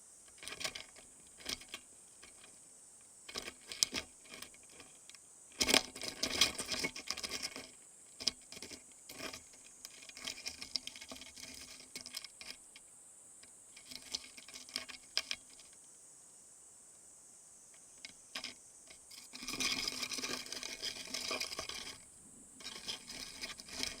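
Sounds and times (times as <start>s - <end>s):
beetles scratching and clicking: 0.2s - 16.0s, 17.7s - 24.0s.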